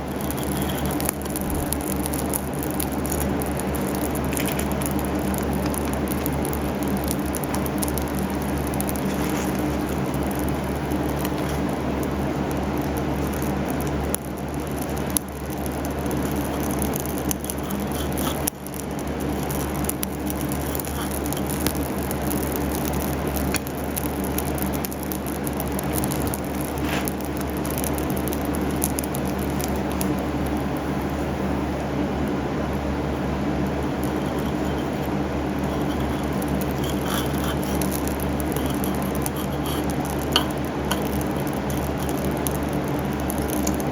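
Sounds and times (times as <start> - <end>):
furnace humming: 0.0 - 43.9
light crackling: 0.0 - 43.9.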